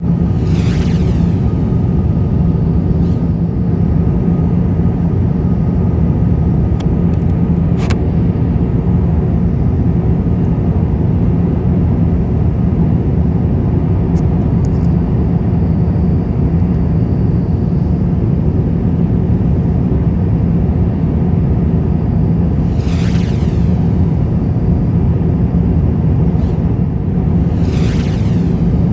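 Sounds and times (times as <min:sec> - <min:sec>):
airliner roaring in flight: 0:00.0 - 0:28.9
faint steady hum: 0:00.0 - 0:28.9.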